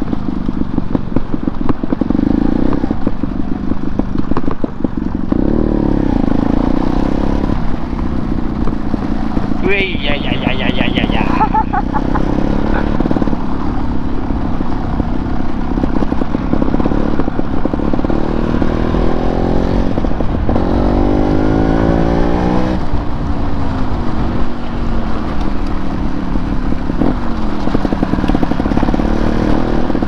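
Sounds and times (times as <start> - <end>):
wind and road noise: 0.0 - 30.0
motorcycle engine revving: 1.9 - 9.6, 10.7 - 23.2, 25.8 - 30.0.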